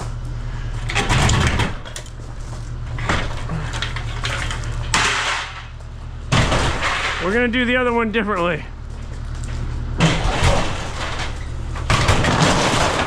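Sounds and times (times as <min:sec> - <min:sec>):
excavator diesel engine running: 0:00.0 - 0:13.0
structure crunching and cracking: 0:00.8 - 0:07.6, 0:08.8 - 0:13.0.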